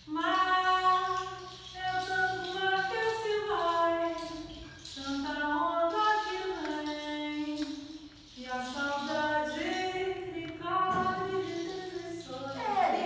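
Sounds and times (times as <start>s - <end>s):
hand shaker rattling: 0.0s - 13.0s
woman singing: 0.0s - 13.0s.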